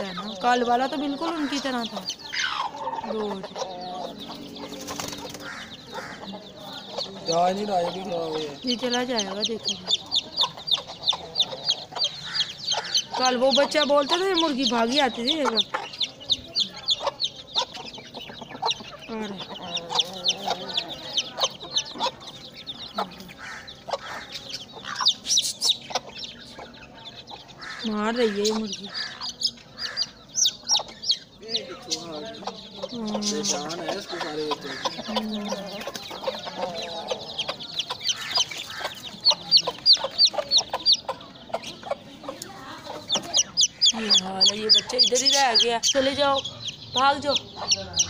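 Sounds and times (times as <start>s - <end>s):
chicks peeping: 0.0s - 48.0s
hen clucking: 0.0s - 48.0s.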